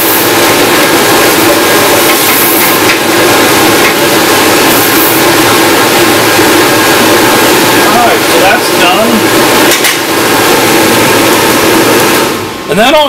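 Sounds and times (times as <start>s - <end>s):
roaster fan running: 0.0s - 13.0s.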